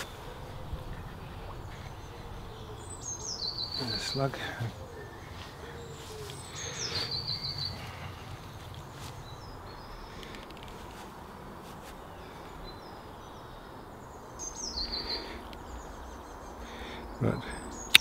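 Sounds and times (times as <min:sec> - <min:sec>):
low outdoor rumble: 0:00.0 - 0:17.8
songbird singing: 0:00.0 - 0:18.0.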